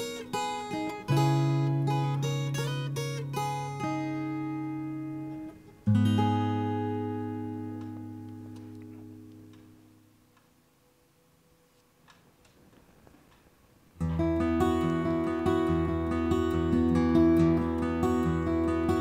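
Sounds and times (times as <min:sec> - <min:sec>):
acoustic guitar chords: 0:00.0 - 0:10.3, 0:14.0 - 0:19.0.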